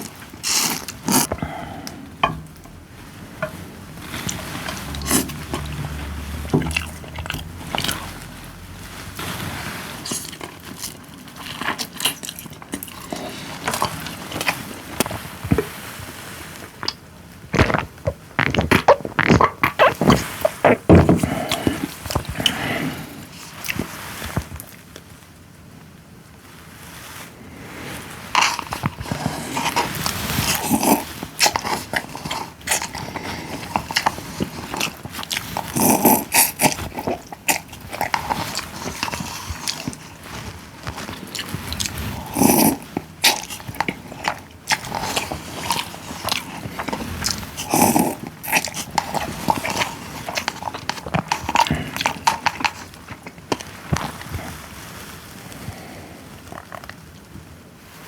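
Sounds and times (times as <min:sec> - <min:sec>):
chewing and mouth noises: 0:00.0 - 0:25.0, 0:27.6 - 0:57.5.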